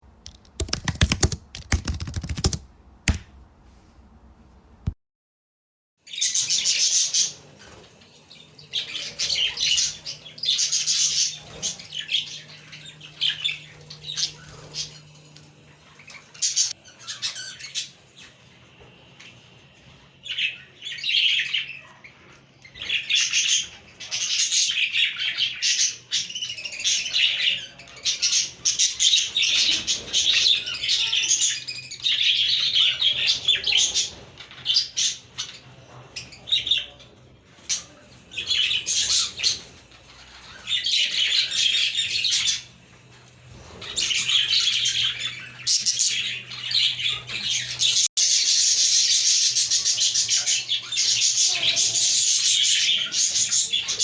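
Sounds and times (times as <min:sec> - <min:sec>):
budgerigars chirping and warbling: 0:06.1 - 0:54.0.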